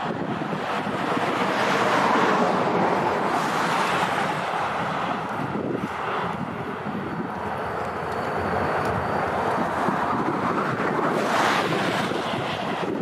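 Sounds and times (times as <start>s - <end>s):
diesel locomotives rumbling: 0.0s - 13.0s
wind buffeting microphone: 0.0s - 13.0s.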